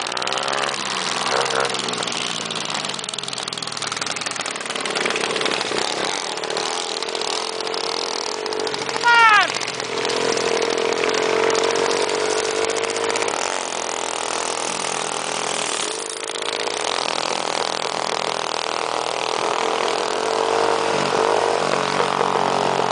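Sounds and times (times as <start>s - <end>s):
small engine running: 0.0s - 22.9s.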